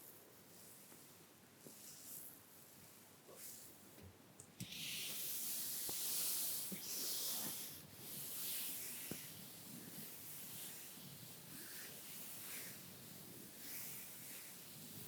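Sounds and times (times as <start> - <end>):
brushes sweeping across skin: 0.0 - 3.8, 4.7 - 15.0.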